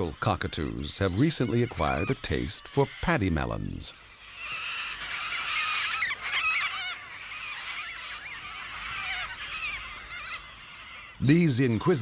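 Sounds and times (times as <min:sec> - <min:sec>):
cockatoos calling: 0:00.0 - 0:12.0.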